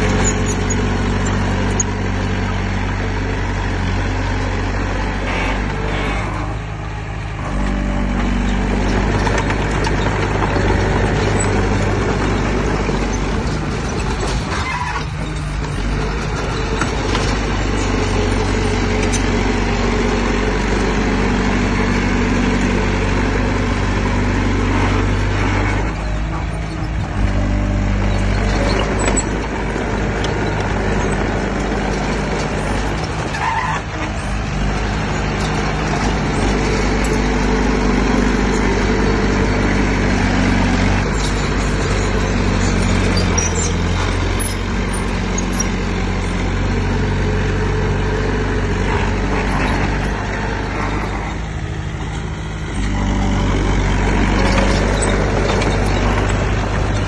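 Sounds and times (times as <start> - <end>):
heavy diesel engine working: 0.0 - 57.0.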